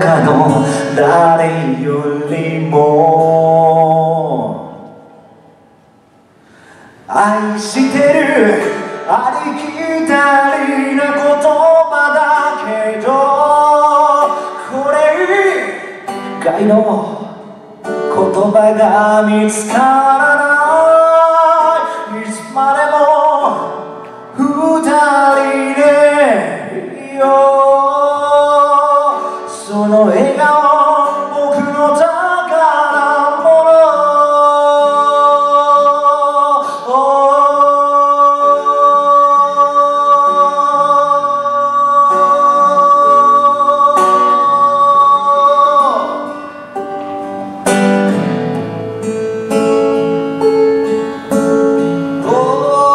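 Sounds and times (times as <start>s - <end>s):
man singing: 0.0s - 5.6s, 6.8s - 52.9s
acoustic guitar: 0.0s - 52.9s.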